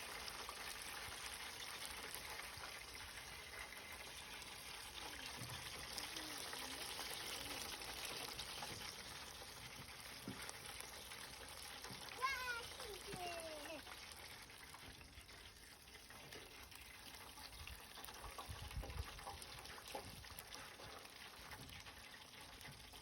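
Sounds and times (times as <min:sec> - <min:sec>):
chicken wings sizzling in oil: 0:00.0 - 0:23.0.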